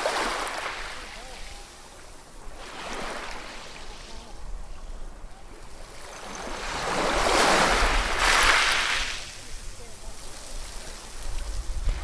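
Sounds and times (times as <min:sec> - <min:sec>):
ocean waves breaking: 0:00.0 - 0:04.7, 0:05.5 - 0:11.3.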